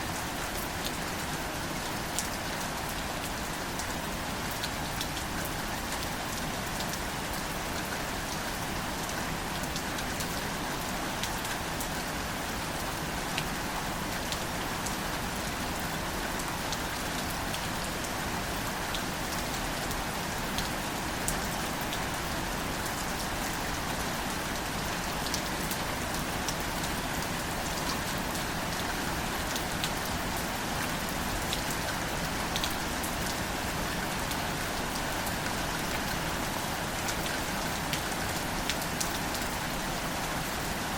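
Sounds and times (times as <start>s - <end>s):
gentle rain on foliage: 0.0s - 40.9s.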